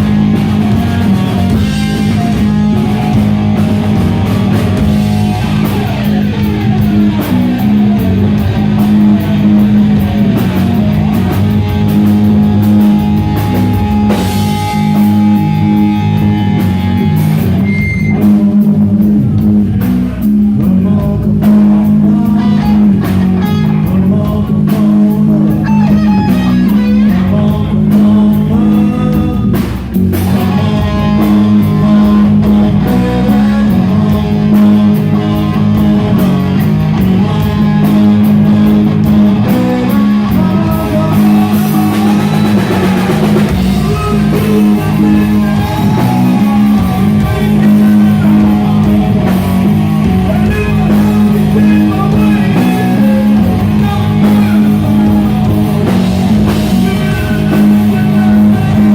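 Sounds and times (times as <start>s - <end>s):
bass guitar: 0.0s - 58.9s
drum kit: 0.0s - 58.9s
electric guitar: 0.0s - 58.9s.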